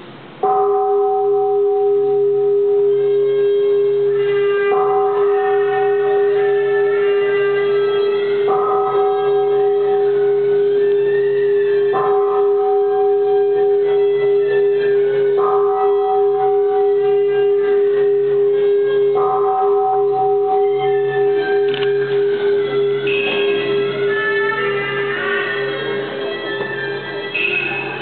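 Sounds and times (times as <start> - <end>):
ceremonial temple music: 0.0 - 28.0
held drone note: 0.4 - 28.0
long sustained notes: 1.2 - 28.0.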